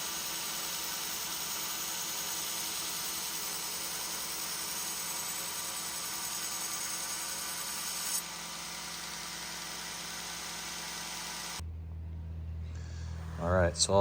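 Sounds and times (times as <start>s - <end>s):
grinder grinding knife blade: 0.0s - 11.6s.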